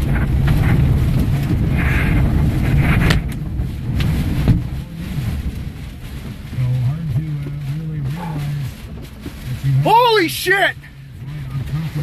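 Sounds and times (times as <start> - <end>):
wind buffeting a truck: 0.0 - 12.0.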